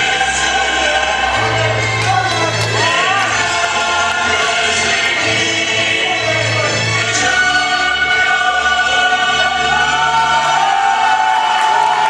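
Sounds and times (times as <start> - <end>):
choir singing long held notes: 0.0 - 12.0.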